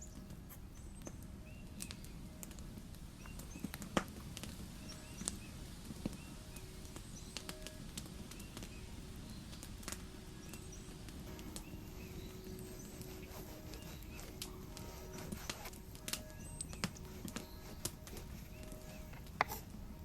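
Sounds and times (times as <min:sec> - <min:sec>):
campfire crackling and popping: 0:00.0 - 0:20.0
small bird chirping: 0:00.0 - 0:20.0.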